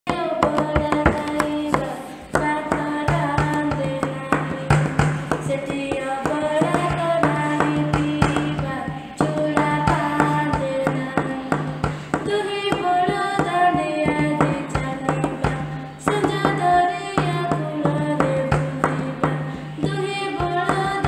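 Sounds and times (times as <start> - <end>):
hand drum beats: 0.1 - 21.0.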